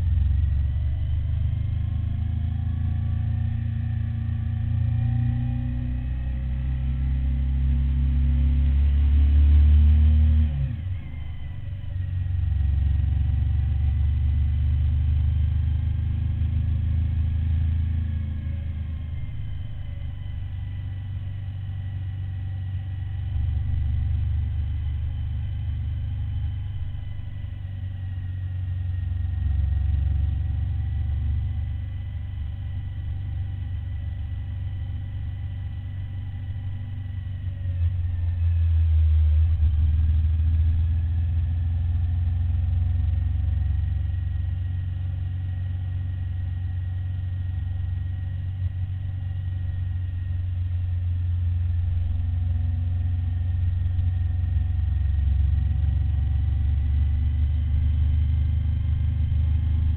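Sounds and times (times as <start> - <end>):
motorcycle engine running: 0.0 - 9.2, 10.5 - 59.9.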